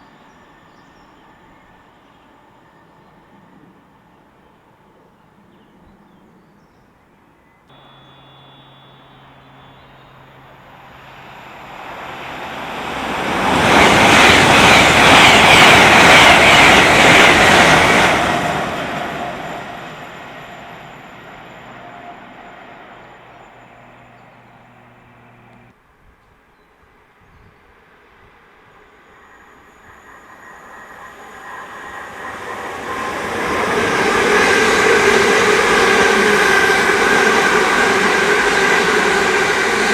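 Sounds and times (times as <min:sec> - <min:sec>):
train passing at speed: 0:00.0 - 0:05.6, 0:07.7 - 0:25.8, 0:27.6 - 0:39.9.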